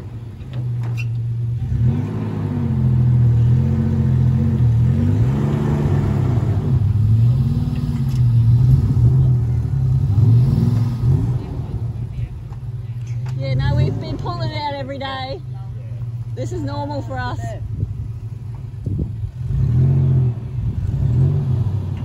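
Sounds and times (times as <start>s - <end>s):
engines revving under load: 0.0s - 22.0s.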